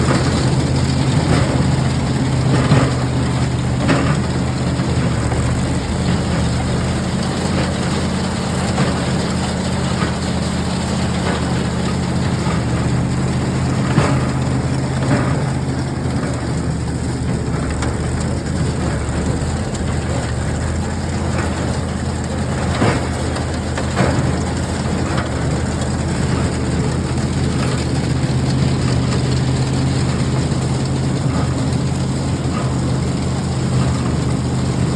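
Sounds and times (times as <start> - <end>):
engine humming: 0.0 - 34.9.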